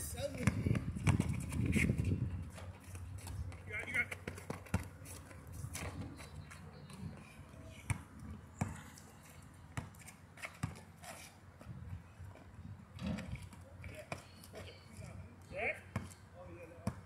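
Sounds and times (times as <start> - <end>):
basketball bouncing on asphalt: 0.2 - 7.2, 7.8 - 8.9, 9.6 - 14.6, 15.7 - 16.2, 16.8 - 17.0.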